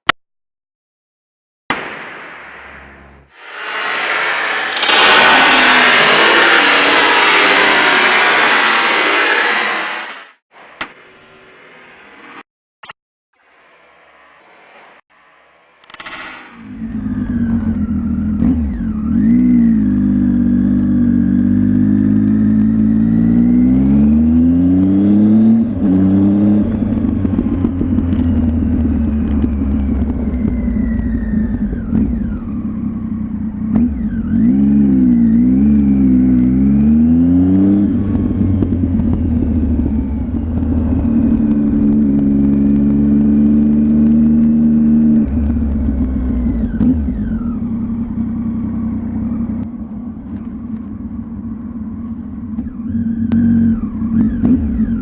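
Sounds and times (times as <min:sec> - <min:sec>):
motorcycle engine revving: 0:03.0 - 0:10.4, 0:15.8 - 0:55.0.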